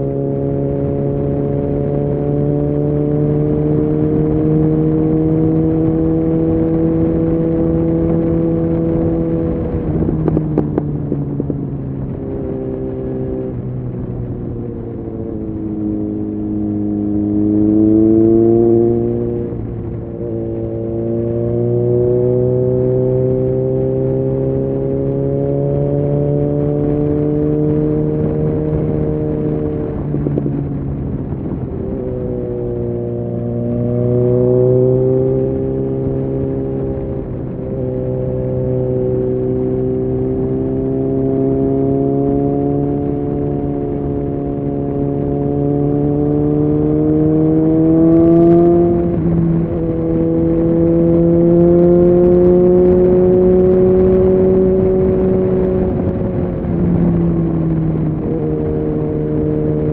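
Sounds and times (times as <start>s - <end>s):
motorcycle engine accelerating: 0.0s - 59.9s
wind rushing: 3.6s - 59.9s.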